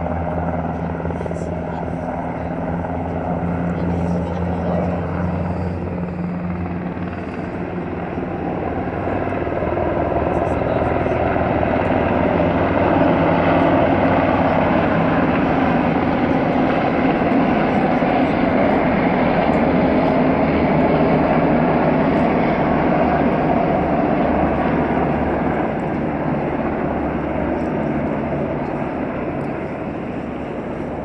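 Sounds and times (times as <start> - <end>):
helicopter rotor drone: 0.0 - 31.0.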